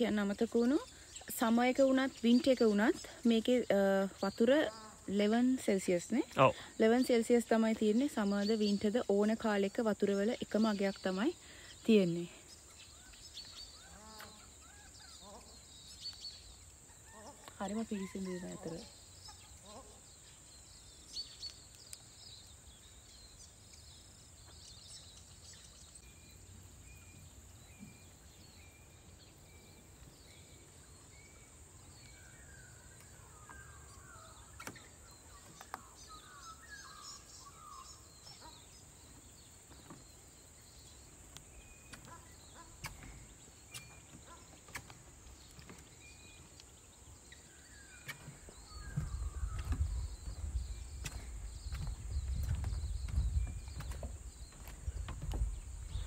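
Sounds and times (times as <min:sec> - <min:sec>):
birds calling and chirping: 0:00.0 - 0:56.0.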